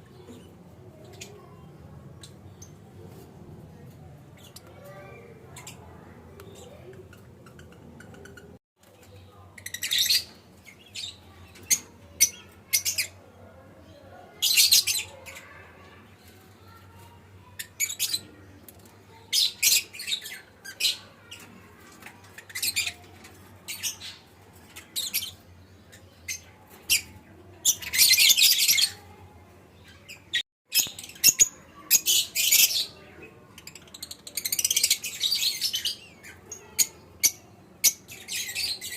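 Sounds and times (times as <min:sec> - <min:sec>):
bird chicks chirping and squawking: 0:00.0 - 0:38.9.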